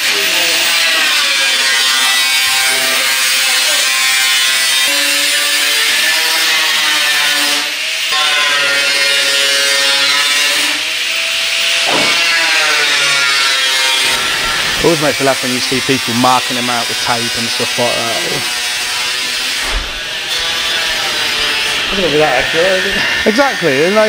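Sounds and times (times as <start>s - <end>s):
angle grinder cutting steel: 0.0s - 24.0s.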